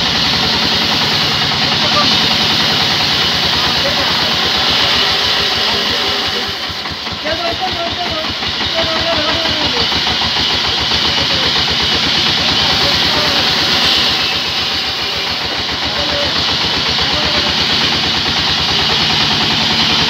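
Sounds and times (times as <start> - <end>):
band saw running: 0.0 - 20.0.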